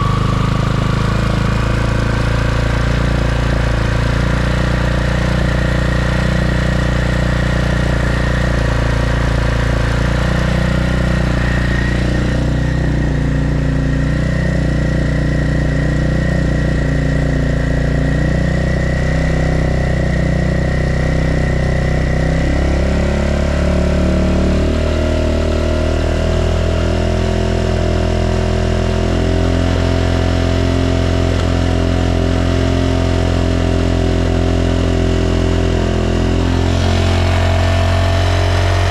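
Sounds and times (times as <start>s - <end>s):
scooter engine idling: 0.0s - 22.7s, 29.0s - 38.9s.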